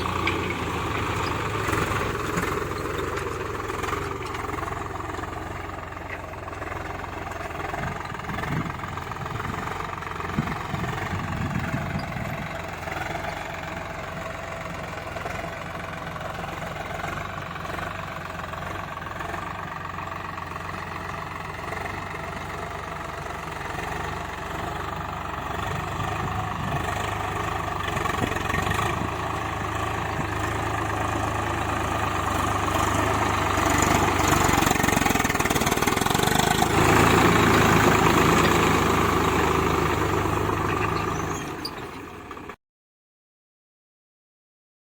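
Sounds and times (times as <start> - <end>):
diesel tractor engine running: 0.0 - 42.6.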